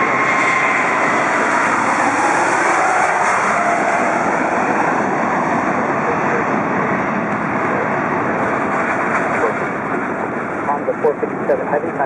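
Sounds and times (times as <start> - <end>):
faint jet whine: 0.0 - 12.0
jet engines roaring: 0.0 - 12.0.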